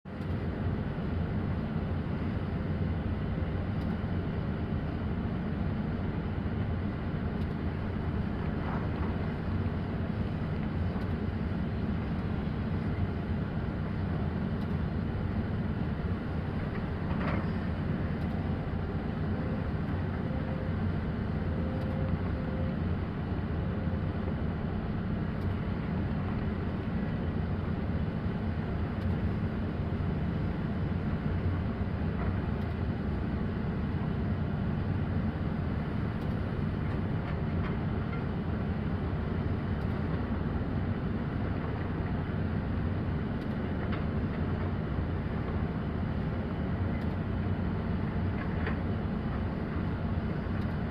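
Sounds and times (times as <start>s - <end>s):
excavator diesel engine running: 0.1s - 50.9s
faint whine: 0.1s - 50.9s.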